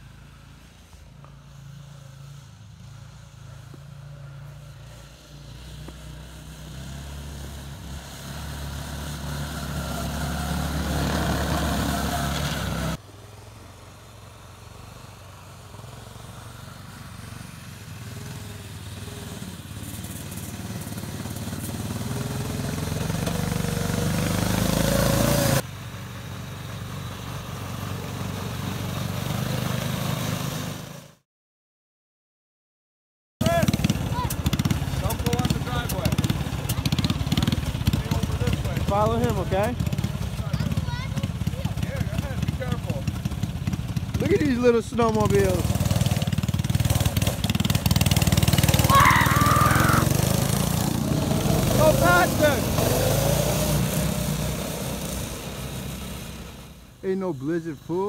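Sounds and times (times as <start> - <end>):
snowmobile engine approaching: 0.0 - 31.2, 33.4 - 58.0.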